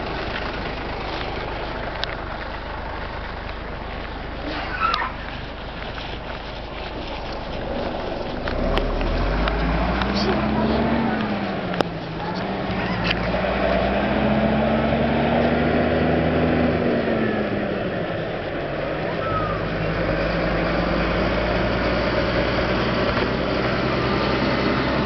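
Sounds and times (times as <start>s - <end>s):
street noise: 0.0s - 25.0s
vehicle engine running: 0.0s - 25.0s.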